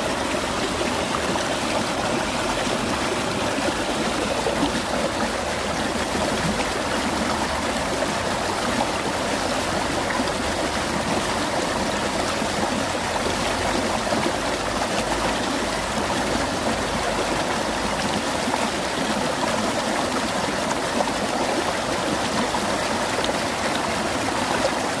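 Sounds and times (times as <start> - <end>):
stream flowing: 0.0 - 25.0.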